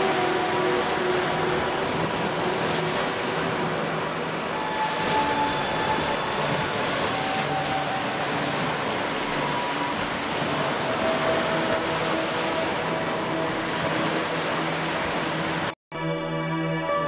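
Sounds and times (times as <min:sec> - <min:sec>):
waves breaking on sandy beach: 0:00.0 - 0:15.8.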